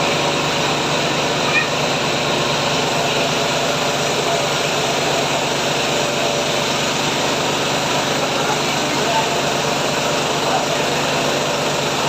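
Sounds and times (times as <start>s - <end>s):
rice milling machine running: 0.0s - 12.0s.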